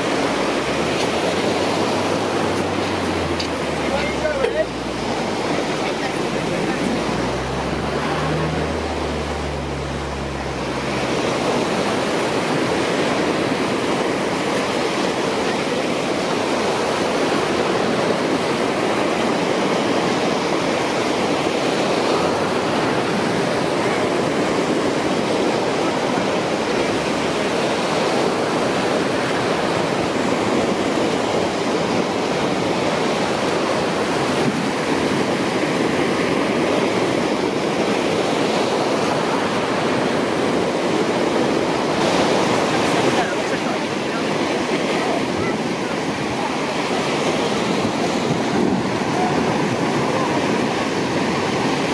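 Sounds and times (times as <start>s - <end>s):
water rushing: 0.0s - 51.9s.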